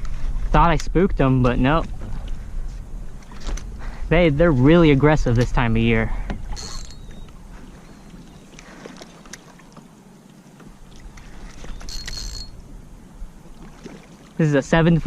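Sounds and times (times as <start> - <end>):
kayak on water: 0.0 - 15.0.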